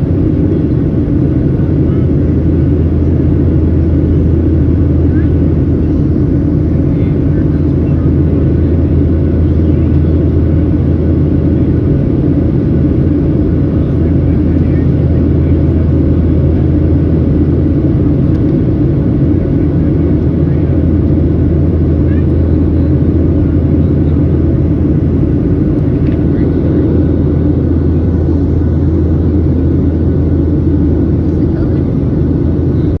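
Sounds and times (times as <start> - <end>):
jet engine cabin rumble: 0.0 - 33.0.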